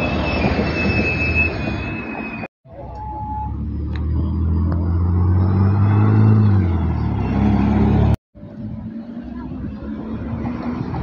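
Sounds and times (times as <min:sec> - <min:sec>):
bus driving past: 0:00.0 - 0:11.0.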